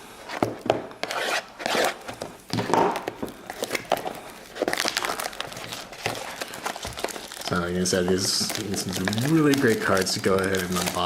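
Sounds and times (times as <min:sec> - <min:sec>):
plastic shrink-wrap crinkling: 0:01.6 - 0:11.0.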